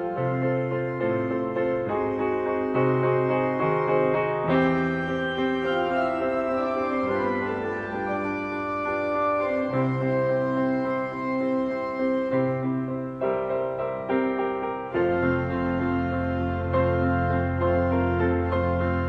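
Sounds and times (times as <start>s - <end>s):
church organ chords: 0.0s - 13.2s, 14.8s - 19.0s
piano playing: 0.0s - 19.0s.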